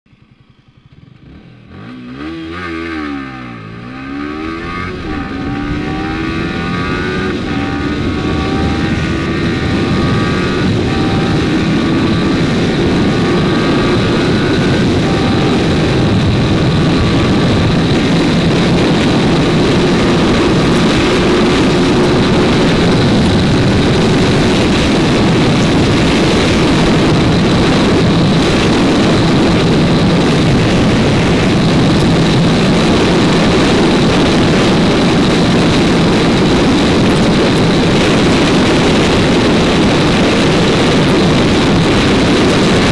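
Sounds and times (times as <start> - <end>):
motorcycle engine accelerating: 0.1 - 42.9
wind rushing over microphone: 0.9 - 42.9.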